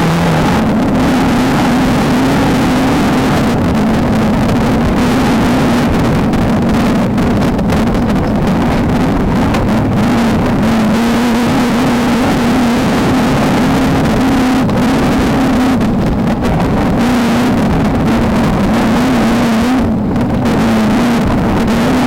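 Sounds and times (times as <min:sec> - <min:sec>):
race car engine revving high: 0:00.0 - 0:22.0
road and wind noise: 0:00.0 - 0:22.0.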